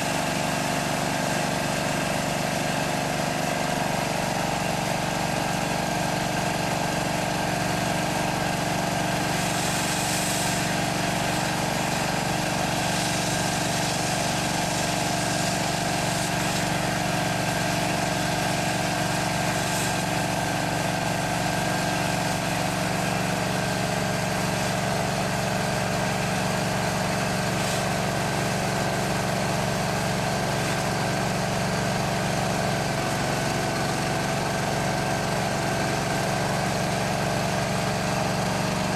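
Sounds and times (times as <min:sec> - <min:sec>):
drain jetter pump engine running: 0:00.0 - 0:38.9
water jet spraying: 0:00.0 - 0:38.9.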